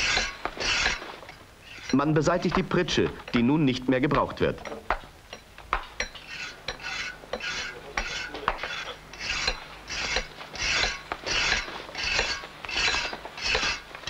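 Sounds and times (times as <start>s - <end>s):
hand tool scraping stone: 0.0s - 3.4s, 6.0s - 14.0s.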